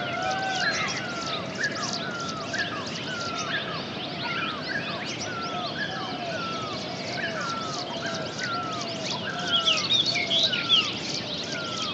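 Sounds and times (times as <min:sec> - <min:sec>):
chorus of birds calling: 0:00.0 - 0:11.9.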